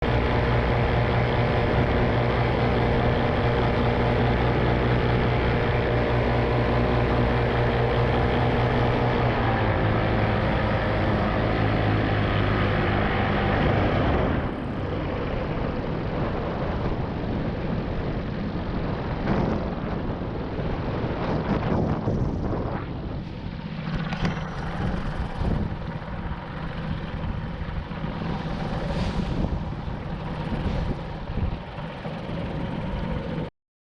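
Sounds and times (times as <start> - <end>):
propeller aircraft engine: 0.0 - 33.5
wind buffeting microphone: 0.0 - 33.5.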